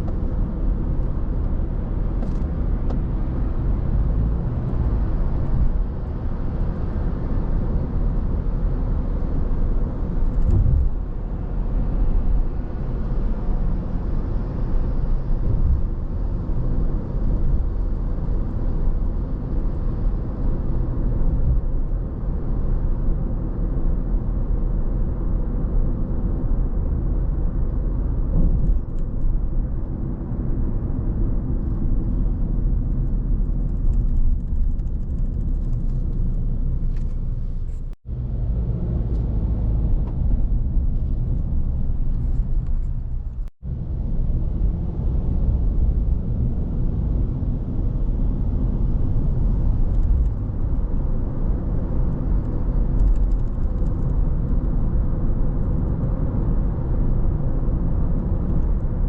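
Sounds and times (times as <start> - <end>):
car driving on road: 0.0 - 59.0.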